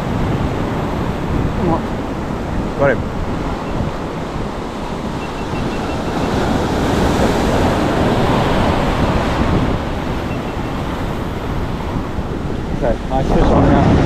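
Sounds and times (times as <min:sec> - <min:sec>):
sea surf washing in: 0:00.0 - 0:14.0
wind buffeting microphone: 0:00.0 - 0:14.0.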